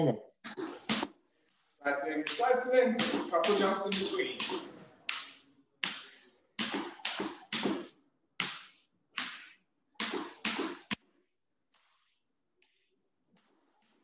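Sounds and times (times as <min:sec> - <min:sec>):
jump rope whooshing: 0:00.4 - 0:14.0.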